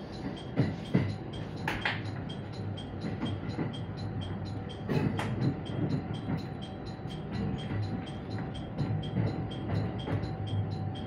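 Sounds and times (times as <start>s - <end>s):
low train running noise: 0.0s - 11.0s
train wheels clacking over rail joints: 0.1s - 11.0s.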